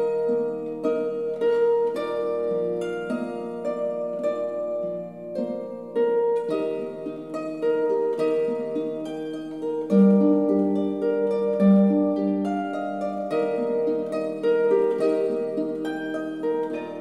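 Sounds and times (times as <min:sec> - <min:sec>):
solo harp plucking: 0:00.0 - 0:17.0.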